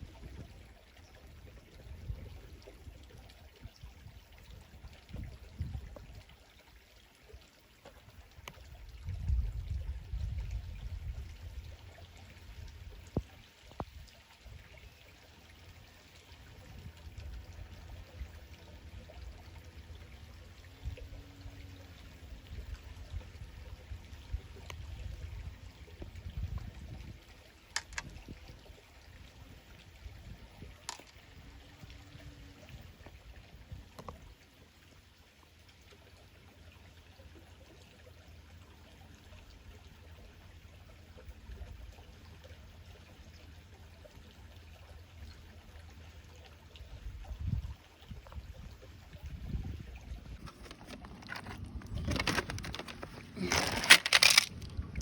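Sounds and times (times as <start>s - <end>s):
small stream trickling: 0.0s - 55.0s.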